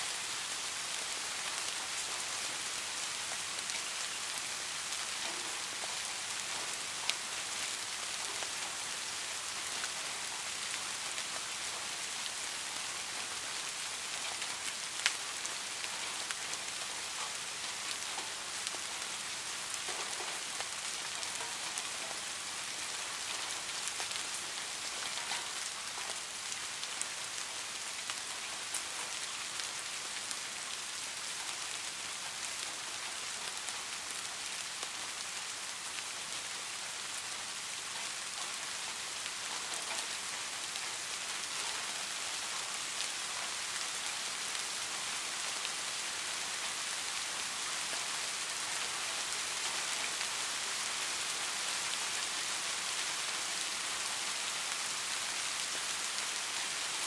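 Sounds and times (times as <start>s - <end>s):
steady rainfall hiss: 0.0s - 57.0s.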